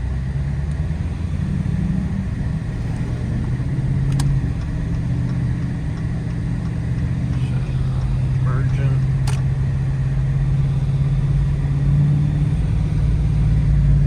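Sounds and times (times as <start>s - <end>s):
car engine running while driving: 0.0s - 14.0s.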